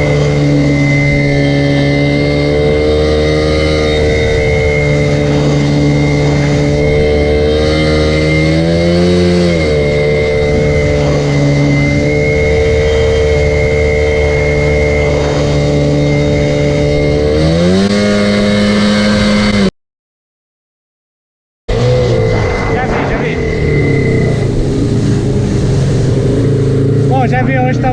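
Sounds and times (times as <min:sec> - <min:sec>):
jet ski engine running: 0:00.0 - 0:19.6, 0:21.7 - 0:27.9.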